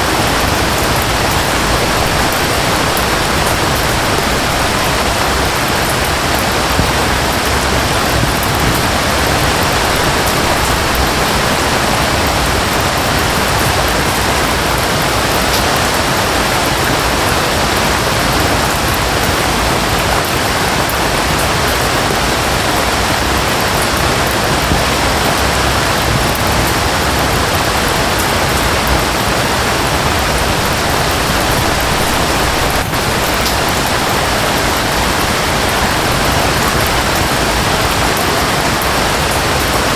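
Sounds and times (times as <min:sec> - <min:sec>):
rain falling: 0:00.0 - 0:39.9
waterfall running: 0:00.0 - 0:39.9.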